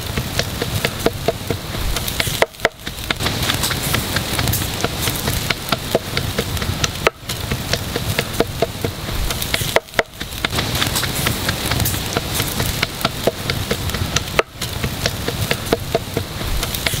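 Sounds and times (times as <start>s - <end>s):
fat sizzling on coals: 0.0s - 17.0s.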